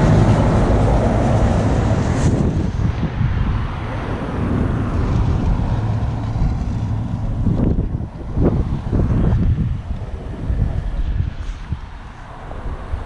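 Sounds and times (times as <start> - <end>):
road traffic passing: 0.0 - 13.0
wind rumbling on microphone: 0.0 - 13.0.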